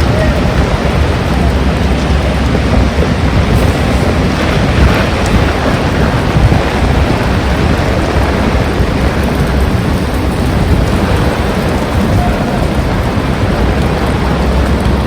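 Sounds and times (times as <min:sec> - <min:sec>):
heavy rain: 0:00.0 - 0:15.0
wind buffeting microphone: 0:00.0 - 0:15.0.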